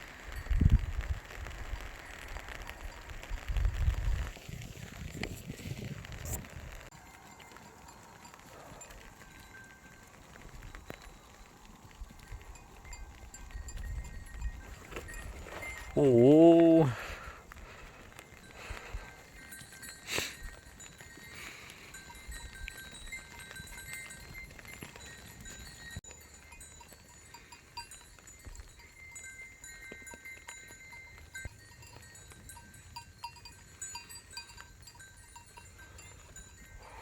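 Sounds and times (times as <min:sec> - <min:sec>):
sheep bells clinking: 0:00.1 - 0:37.0.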